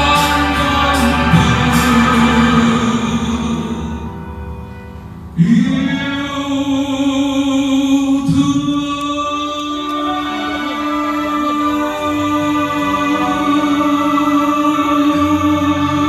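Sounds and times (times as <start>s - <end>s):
man singing: 0.0s - 4.4s, 5.4s - 16.0s
recorded backing track: 0.0s - 16.0s.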